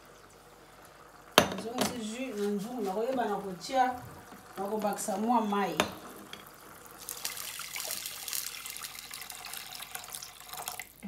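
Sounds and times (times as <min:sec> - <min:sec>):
liquid pouring into a pot: 0:00.0 - 0:11.0.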